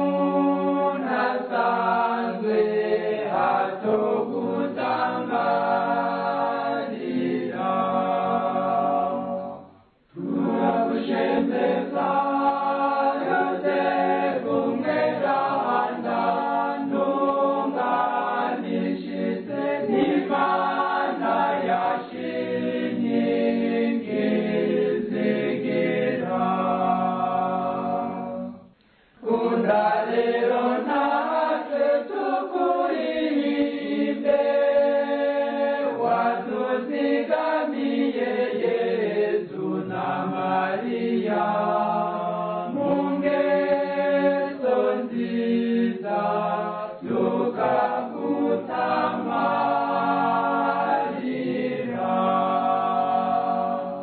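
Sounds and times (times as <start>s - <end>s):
choir singing a hymn: 0.0s - 28.6s, 29.2s - 54.0s.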